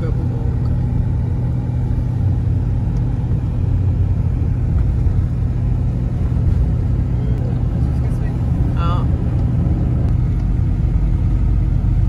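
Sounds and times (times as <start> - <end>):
motorhome engine and tyre drone: 0.0 - 12.0.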